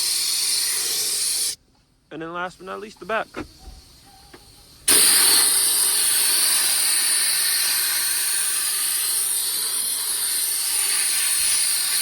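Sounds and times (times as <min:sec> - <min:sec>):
air blower hissing: 0:00.0 - 0:01.6, 0:02.6 - 0:12.0.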